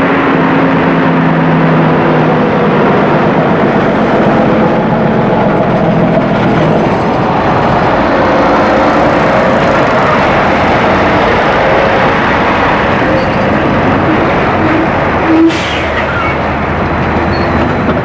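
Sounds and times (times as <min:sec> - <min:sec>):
heavy vehicles passing: 0:00.0 - 0:18.0.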